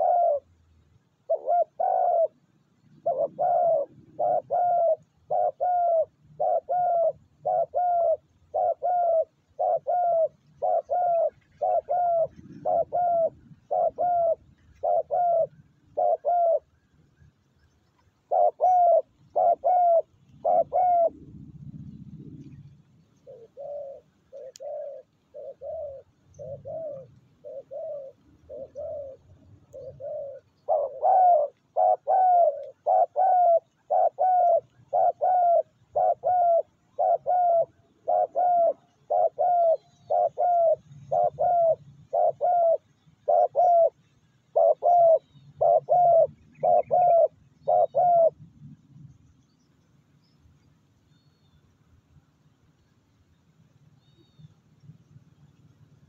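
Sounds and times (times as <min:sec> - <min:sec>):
dove cooing: 0:00.0 - 0:17.4, 0:18.2 - 0:48.8.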